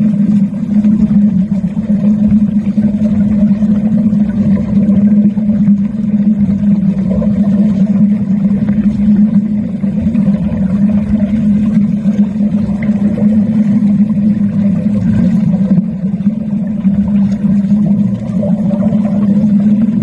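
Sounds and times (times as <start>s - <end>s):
underwater arc welding buzz: 0.0s - 20.0s.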